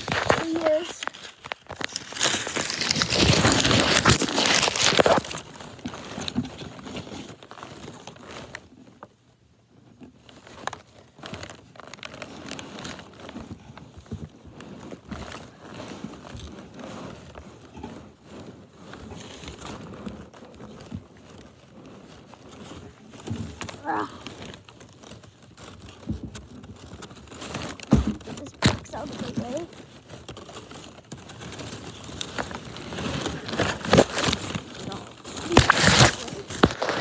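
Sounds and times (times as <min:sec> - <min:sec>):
plastic wrapping crinkling: 0:00.0 - 0:09.2, 0:09.8 - 0:37.0
cardboard and plastic rustling: 0:00.0 - 0:37.0.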